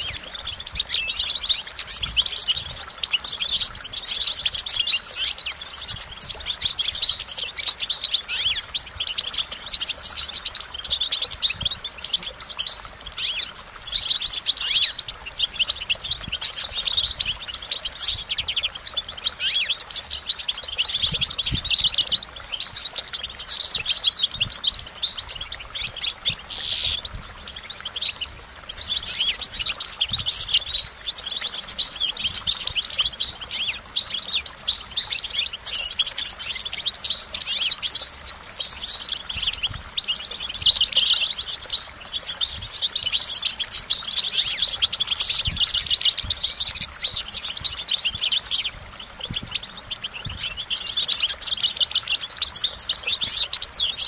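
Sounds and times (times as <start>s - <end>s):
goldfinch twittering song: 0.0s - 54.0s.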